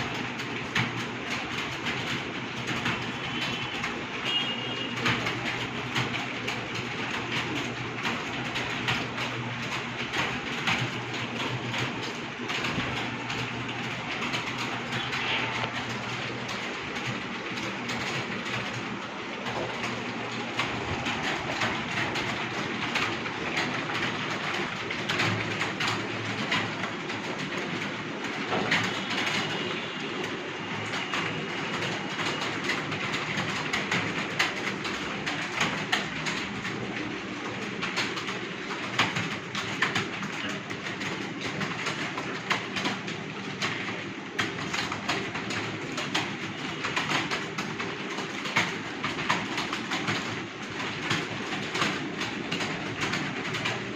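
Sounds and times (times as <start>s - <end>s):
rapid keyboard typing: 0.0s - 53.9s.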